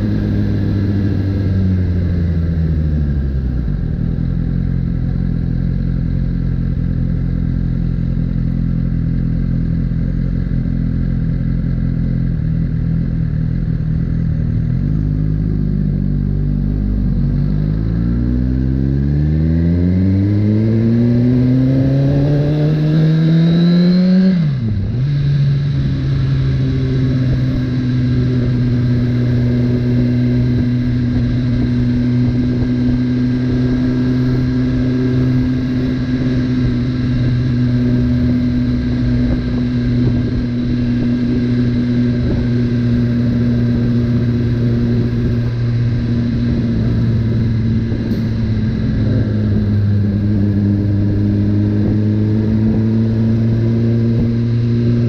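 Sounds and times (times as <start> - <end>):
motorcycle engine cruising: 0.0 - 55.0
wind and road rumble: 0.0 - 55.0.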